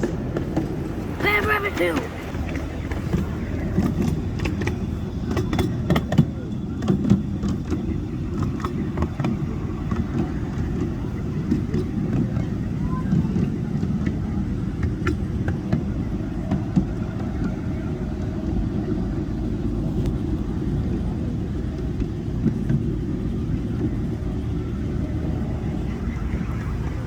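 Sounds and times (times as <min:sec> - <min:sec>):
miniature train rumbling on track: 0:00.0 - 0:27.0.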